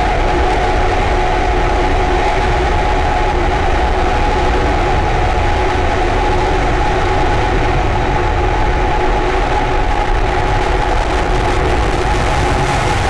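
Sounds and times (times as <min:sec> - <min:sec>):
rocket engine rumble: 0:00.0 - 0:13.0.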